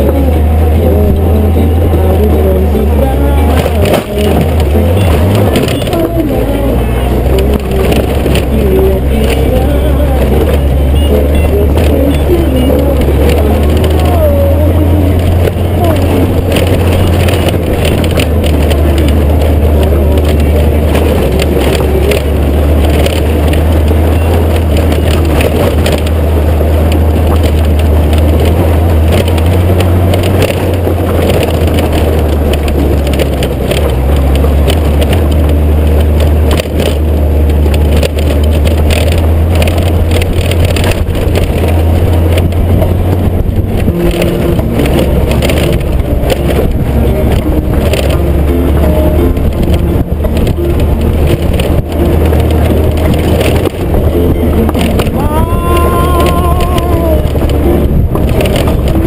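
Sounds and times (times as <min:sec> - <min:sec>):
gravel crunching under tyres: 0:00.0 - 0:59.0
motorcycle engine running: 0:00.0 - 0:59.0.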